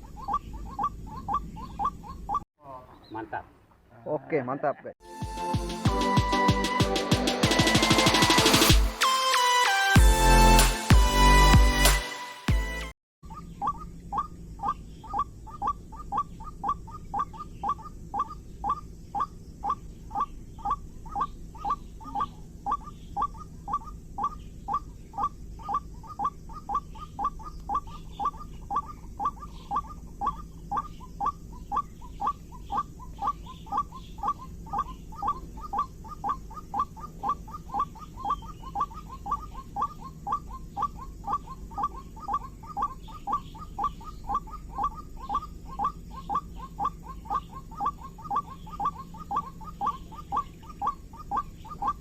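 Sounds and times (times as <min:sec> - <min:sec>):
low background hum: 0:00.0 - 0:05.0, 0:13.2 - 0:52.0.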